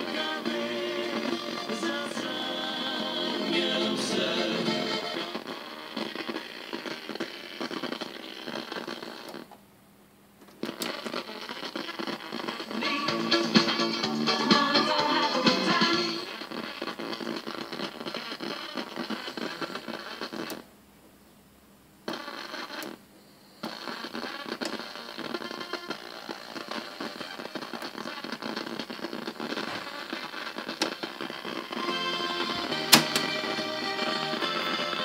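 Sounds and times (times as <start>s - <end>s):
radio speaker crackling: 0.0s - 9.6s, 10.4s - 20.7s, 22.0s - 35.0s.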